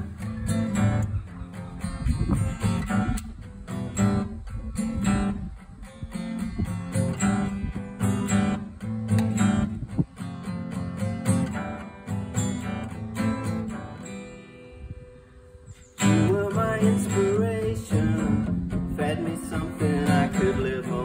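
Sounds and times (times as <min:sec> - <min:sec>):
acoustic guitars strummed and picked: 0:00.0 - 0:21.0.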